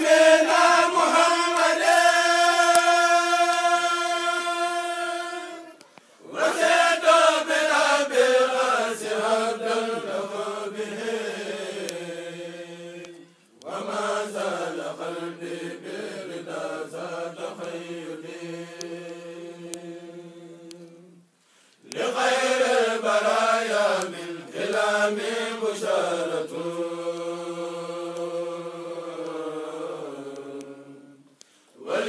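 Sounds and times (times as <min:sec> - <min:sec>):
men chanting together: 0:00.0 - 0:13.0, 0:13.7 - 0:20.6, 0:21.9 - 0:31.2, 0:31.8 - 0:32.0.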